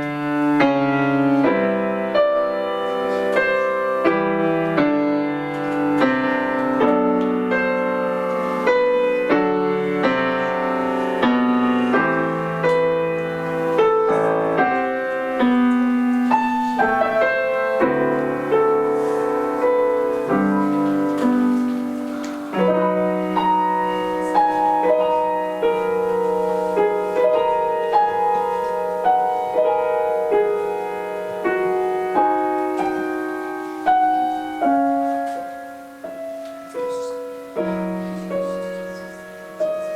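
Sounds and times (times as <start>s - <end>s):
classical piano piece: 0.0s - 39.9s.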